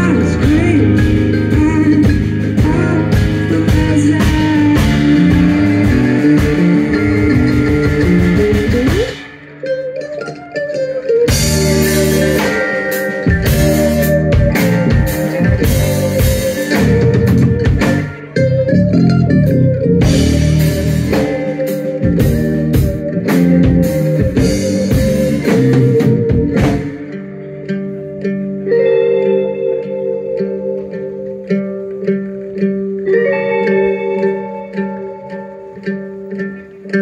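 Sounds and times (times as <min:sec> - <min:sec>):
drum kit: 0:00.0 - 0:37.0
electric bass: 0:00.0 - 0:37.0
electric guitar: 0:00.0 - 0:37.0
mandolin: 0:00.0 - 0:37.0.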